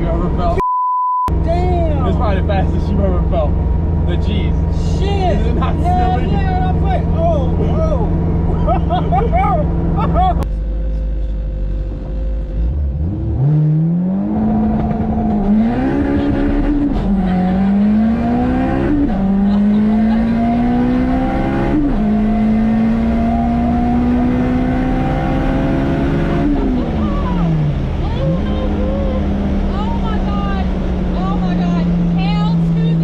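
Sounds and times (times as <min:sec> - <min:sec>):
car engine accelerating hard: 0:01.4 - 0:33.0.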